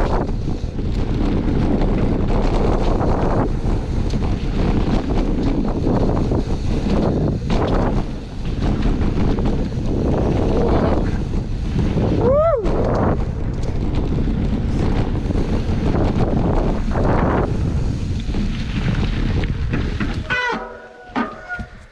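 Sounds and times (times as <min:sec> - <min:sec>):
steady low rumble: 0:00.0 - 0:21.1
wind buffeting microphone: 0:00.0 - 0:21.9.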